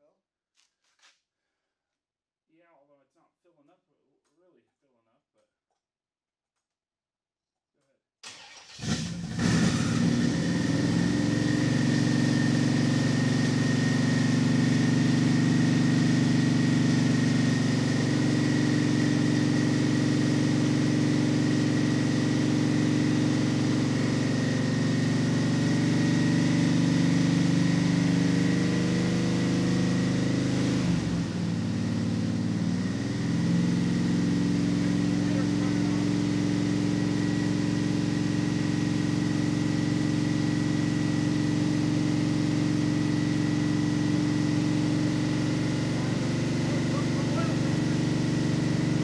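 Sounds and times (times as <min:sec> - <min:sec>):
engine running at fast idle: 0:08.4 - 0:49.0.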